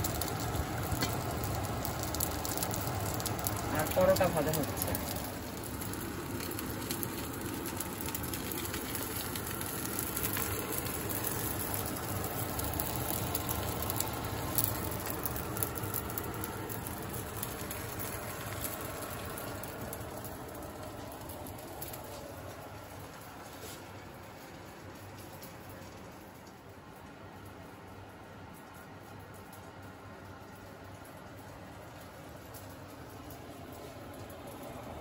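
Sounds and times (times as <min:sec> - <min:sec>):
flatbread sizzling in a pan: 0:00.0 - 0:35.0.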